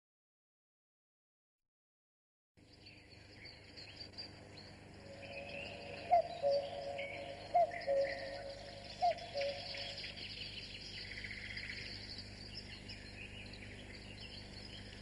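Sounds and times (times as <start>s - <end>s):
birds singing: 2.6s - 15.0s
insects chirping: 2.7s - 15.0s.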